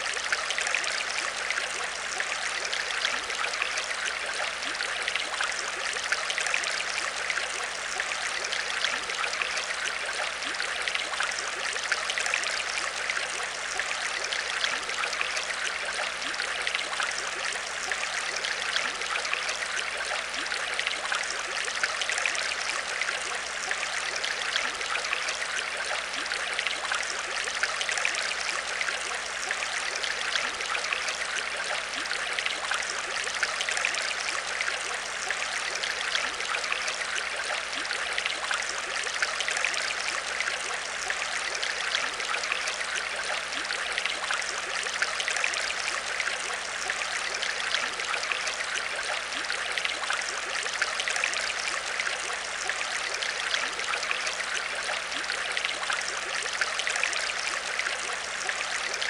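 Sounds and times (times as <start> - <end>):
aquarium water trickling: 0.0 - 59.0.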